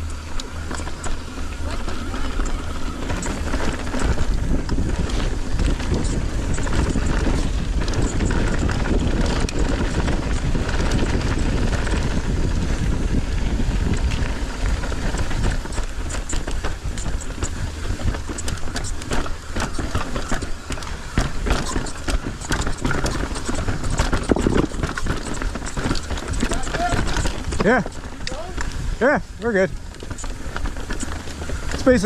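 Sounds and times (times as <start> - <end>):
bike rattling clicks: 0.0 - 32.0
wind buffeting microphone: 0.0 - 32.0.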